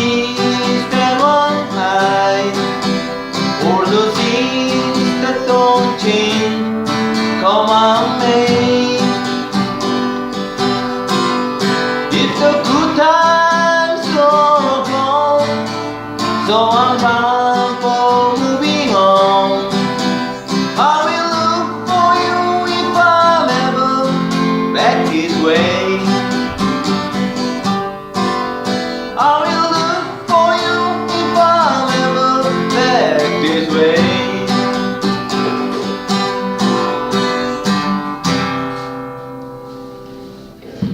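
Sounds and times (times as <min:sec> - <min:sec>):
acoustic guitar strumming: 0:00.0 - 0:40.9
bending guitar melody: 0:00.0 - 0:40.9.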